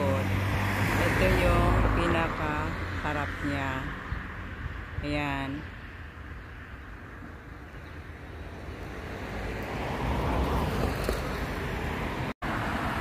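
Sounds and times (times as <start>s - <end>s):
road traffic: 0.0s - 13.0s
wind rumbling on microphone: 0.2s - 12.3s.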